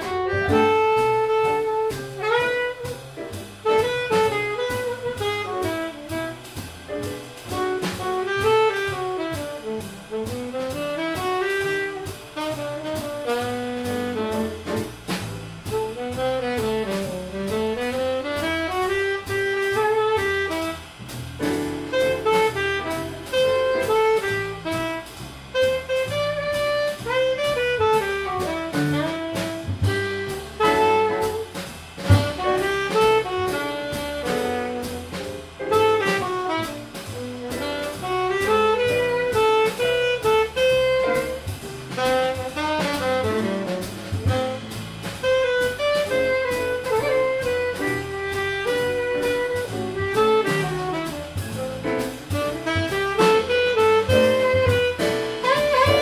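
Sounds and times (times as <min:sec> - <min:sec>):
double bass: 0:00.0 - 0:56.0
drums with cymbal pattern: 0:00.0 - 0:56.0
saxophone jazz melody: 0:00.0 - 0:56.0.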